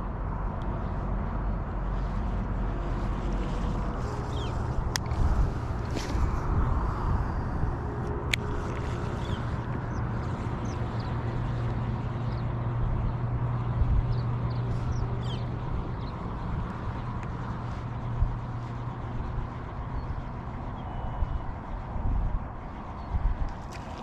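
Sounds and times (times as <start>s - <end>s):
low hum: 0.0s - 24.0s
wind noise: 0.0s - 24.0s.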